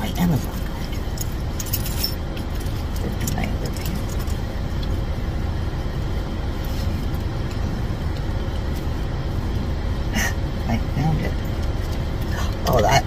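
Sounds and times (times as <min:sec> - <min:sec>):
vehicle cabin rumble: 0:00.0 - 0:13.0.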